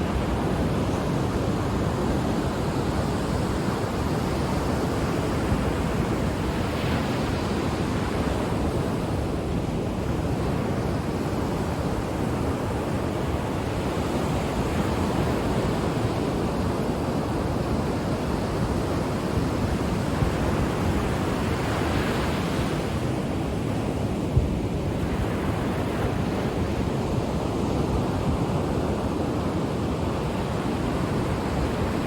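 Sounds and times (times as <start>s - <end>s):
ocean waves washing onto beach: 0.0s - 32.0s.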